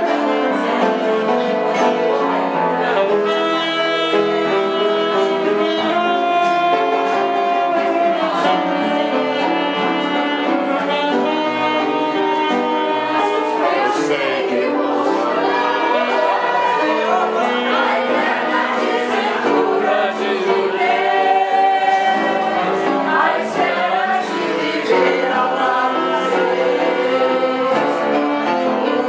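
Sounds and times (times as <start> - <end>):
piano accompaniment: 0.0 - 29.0
saxophone melody: 0.0 - 29.0.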